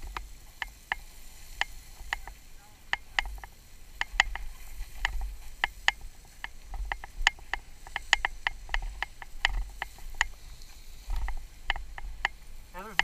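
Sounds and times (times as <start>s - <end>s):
sharp clicking and ticking: 0.0s - 13.0s.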